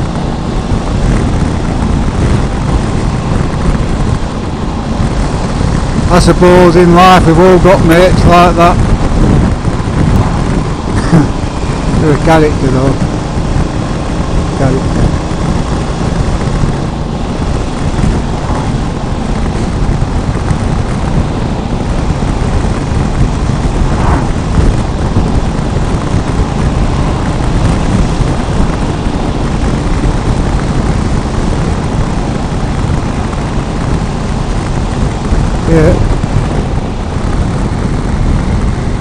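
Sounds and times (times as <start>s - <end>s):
motorcycle engine and tyre noise: 0.0s - 39.0s
wind buffeting microphone: 0.0s - 39.0s.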